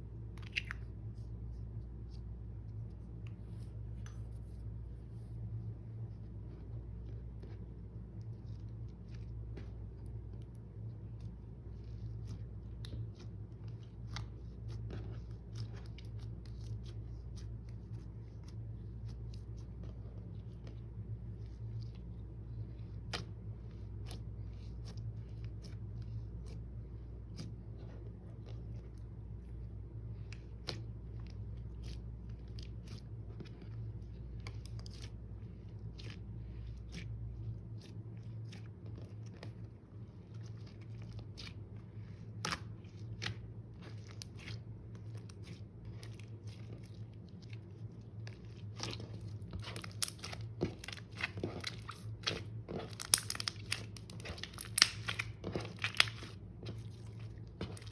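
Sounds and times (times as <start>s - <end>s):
slime kneaded by hand: 0.0s - 57.9s
steady low hum: 0.0s - 57.9s.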